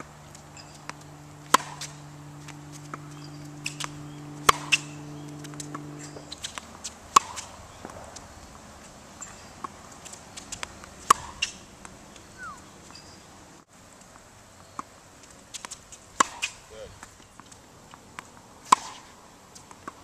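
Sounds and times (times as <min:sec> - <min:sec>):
ball bouncing on hard court: 0:00.0 - 0:08.6, 0:09.2 - 0:12.6, 0:15.5 - 0:20.0
racket hitting tennis ball: 0:00.0 - 0:13.0, 0:14.8 - 0:20.0.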